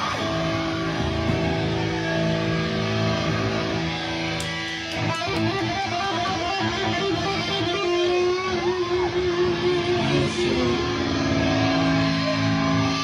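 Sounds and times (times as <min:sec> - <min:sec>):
drums: 0:00.0 - 0:13.0
electric guitar notes bent in pitch: 0:00.0 - 0:13.0.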